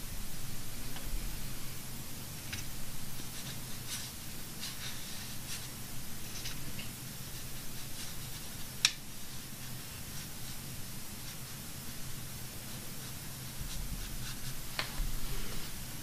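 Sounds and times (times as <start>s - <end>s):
brush strokes on paper: 3.0s - 16.0s.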